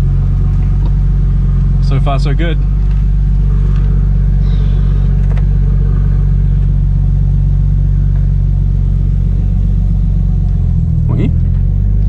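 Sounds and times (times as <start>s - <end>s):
car engine droning at low revs: 0.0s - 12.0s.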